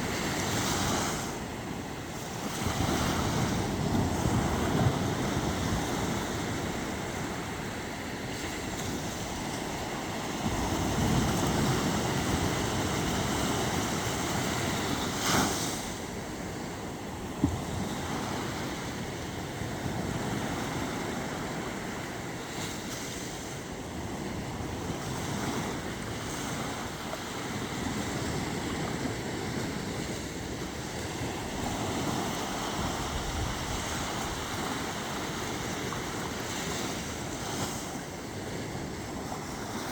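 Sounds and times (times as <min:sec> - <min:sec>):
sea waves washing in: 0:00.0 - 0:39.9
wind on microphone: 0:00.0 - 0:39.9.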